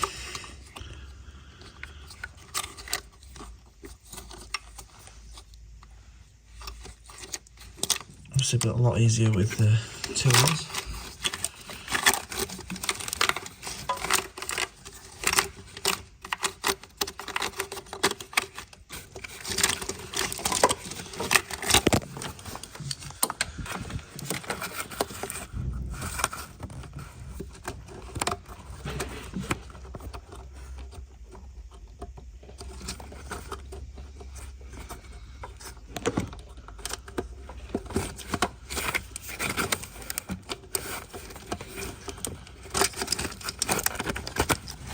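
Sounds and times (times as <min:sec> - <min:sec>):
clicks and clatter of plastic clips: 0:06.5 - 0:33.8, 0:34.8 - 0:44.9.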